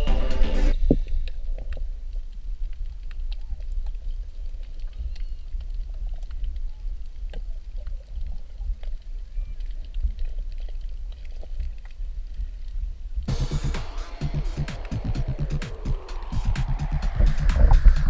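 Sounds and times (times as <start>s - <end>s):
underwater rumble of water: 0.8s - 13.3s, 14.7s - 18.0s.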